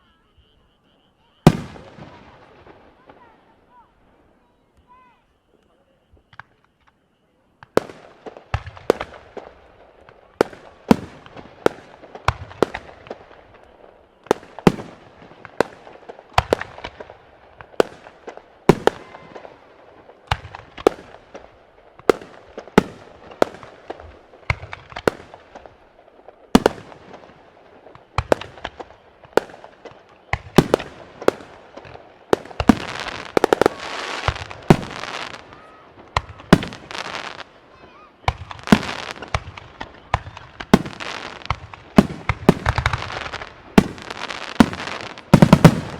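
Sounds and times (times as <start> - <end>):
fireworks bursting with sharp bangs: 0.0 - 45.9
fireworks crackling: 0.0 - 45.9.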